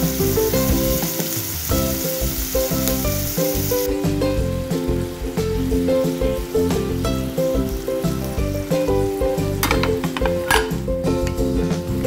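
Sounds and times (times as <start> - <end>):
background music with stepping melody: 0.0 - 12.0
shrimp and onion sizzling in pan: 0.0 - 12.0.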